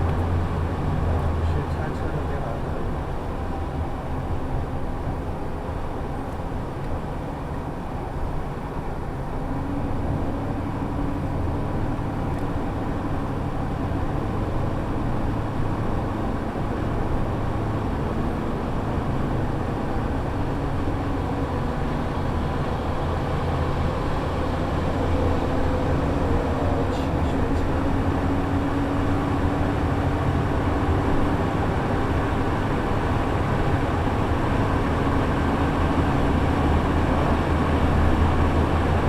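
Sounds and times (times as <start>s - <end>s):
bus engine drone: 0.0s - 39.0s
road noise: 0.0s - 39.0s.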